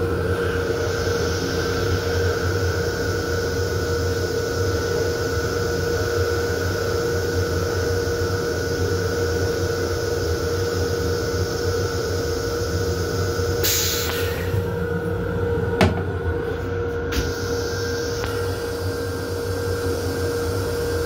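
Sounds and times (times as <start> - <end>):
faint high whine: 0.0 - 21.0
train running rumble and hum: 0.0 - 21.0.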